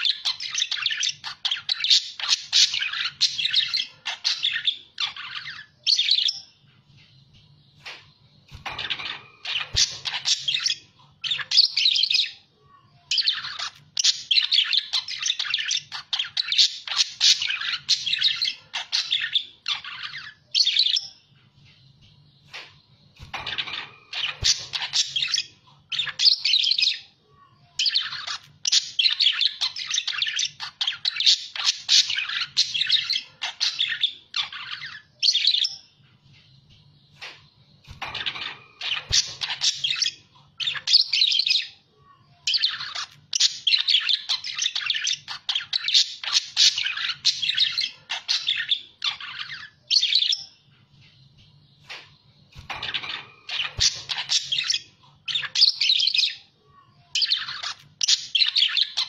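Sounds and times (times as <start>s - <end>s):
budgerigars chattering and warbling: 0.0s - 6.4s, 7.8s - 12.4s, 13.2s - 21.1s, 23.2s - 27.0s, 27.8s - 35.8s, 37.2s - 41.8s, 42.5s - 50.5s, 51.8s - 56.5s, 57.2s - 59.0s.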